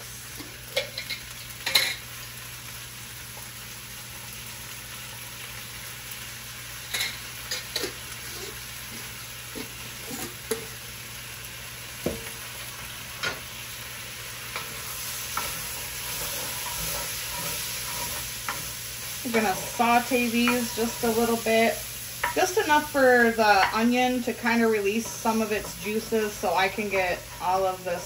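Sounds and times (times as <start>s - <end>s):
vegetables sizzling in oil: 0.0s - 28.0s.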